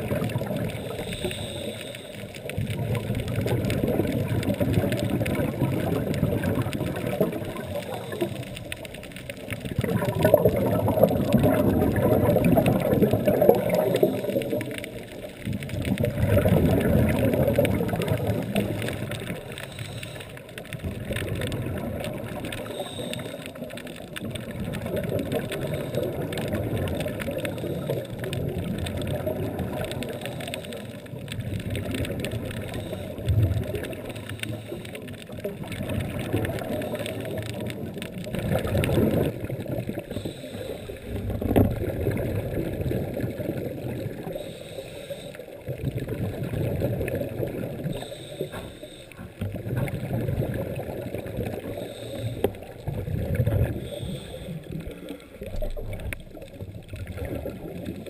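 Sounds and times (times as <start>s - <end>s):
gurgling exhalation bubbles: 0.0s - 1.6s, 2.2s - 58.0s
low underwater rumble: 0.0s - 58.0s.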